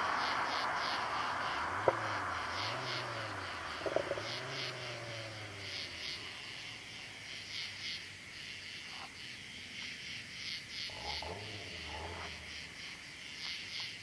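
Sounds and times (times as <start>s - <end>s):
car engine driving away: 0.0s - 8.6s, 10.7s - 13.5s
crickets chirping: 0.0s - 14.0s.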